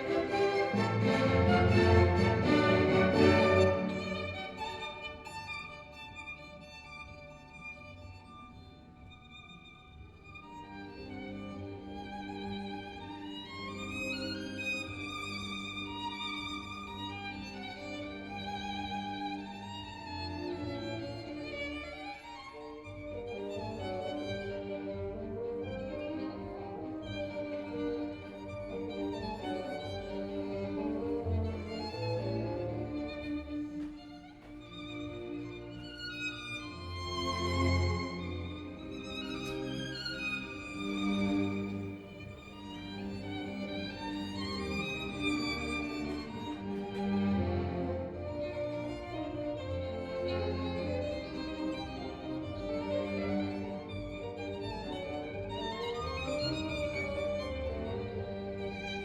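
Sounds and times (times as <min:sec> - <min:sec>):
violin music: 0:00.0 - 0:59.0.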